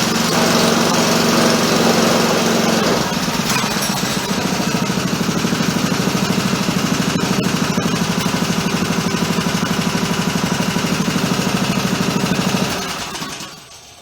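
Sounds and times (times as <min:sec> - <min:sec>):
small engine fast idle: 0:00.0 - 0:14.0.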